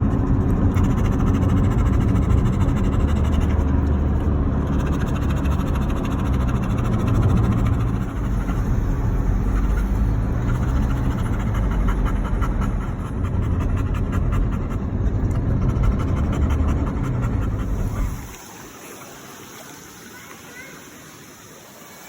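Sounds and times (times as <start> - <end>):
steady low rumble: 0.0 - 18.4
dog panting: 0.0 - 18.5.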